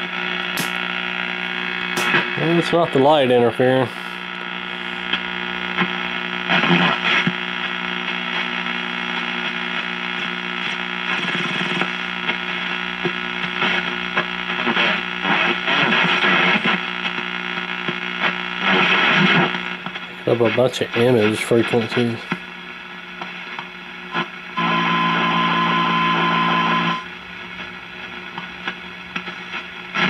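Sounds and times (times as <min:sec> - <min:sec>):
garbled radio signal: 0:00.0 - 0:30.0
radio static hum and hiss: 0:00.0 - 0:30.0.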